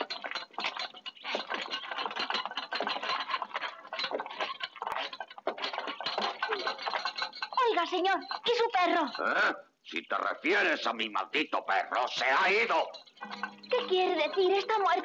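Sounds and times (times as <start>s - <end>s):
hand cart rattling: 0.0s - 15.0s.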